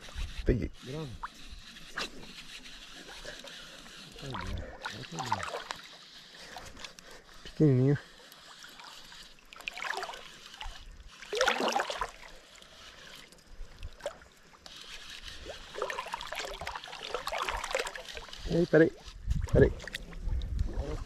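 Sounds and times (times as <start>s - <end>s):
water splashing beside boat: 1.2s - 7.0s, 8.2s - 21.0s.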